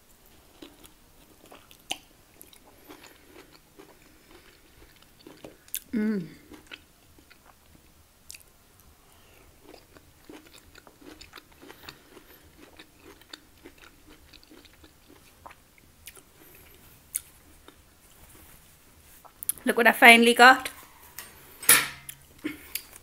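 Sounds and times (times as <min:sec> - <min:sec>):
person chewing vegetables: 0:00.2 - 0:19.6, 0:20.9 - 0:23.0.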